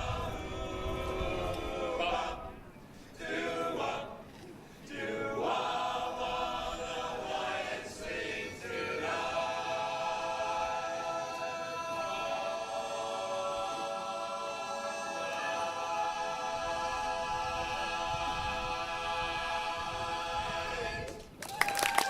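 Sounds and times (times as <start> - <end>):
a cappella choir singing: 0.0 - 21.4.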